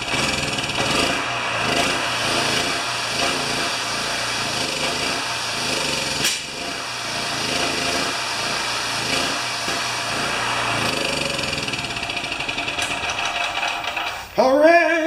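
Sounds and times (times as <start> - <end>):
generator engine running: 0.0 - 14.4
electric drill whine: 0.1 - 14.4.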